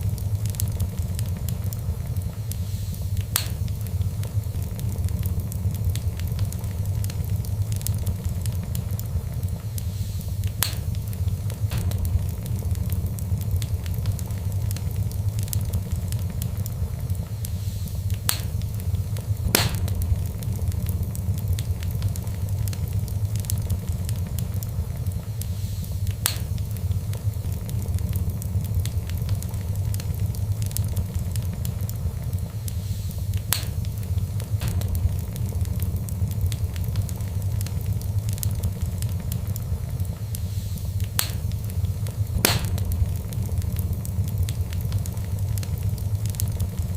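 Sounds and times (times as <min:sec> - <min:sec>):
fire crackles and pops: 0:00.0 - 0:46.9
fire flames rumbling: 0:00.0 - 0:46.9.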